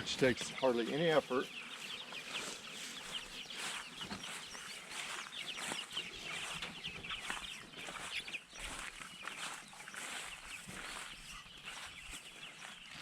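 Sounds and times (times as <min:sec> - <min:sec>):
chickens clucking and chirping: 0:00.0 - 0:13.0.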